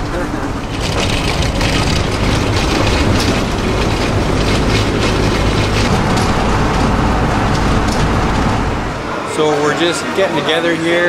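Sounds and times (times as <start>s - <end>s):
interior fittings rattling: 0.0s - 9.0s
engine and tyre rumble: 0.0s - 9.5s.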